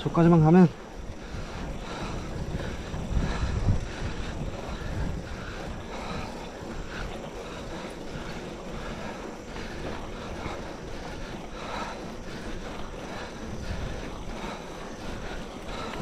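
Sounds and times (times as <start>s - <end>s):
low rumble of bike ride: 0.0s - 16.0s
wind rushing over microphone: 0.0s - 16.0s.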